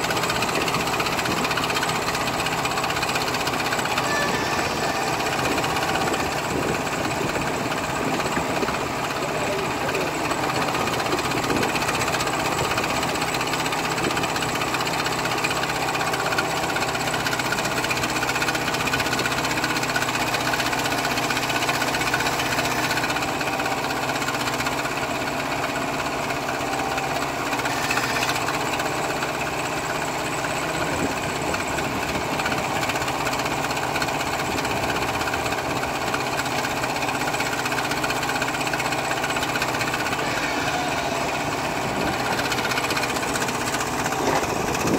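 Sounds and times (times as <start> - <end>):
backhoe digging gravel: 0.0 - 44.9
diesel engine running: 0.0 - 44.9.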